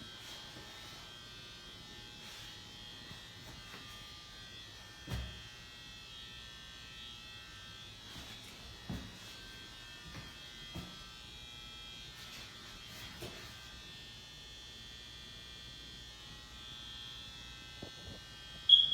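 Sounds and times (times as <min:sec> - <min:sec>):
electrical buzz with high whine: 0:00.0 - 0:18.9.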